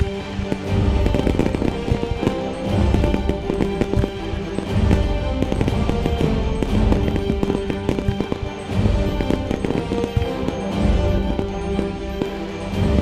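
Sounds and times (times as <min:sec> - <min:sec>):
fireworks bangs and crackles: 0:00.0 - 0:13.0
music: 0:00.0 - 0:13.0.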